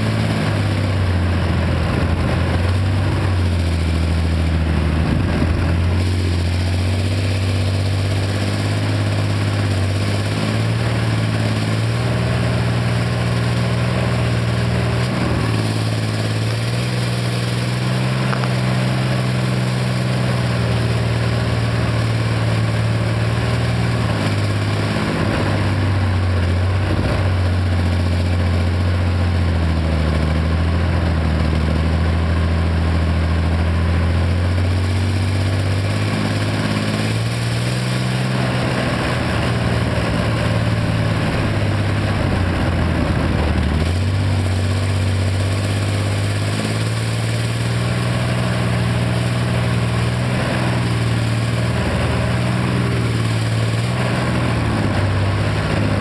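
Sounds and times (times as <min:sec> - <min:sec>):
armoured vehicle engine running: 0:00.0 - 0:56.0.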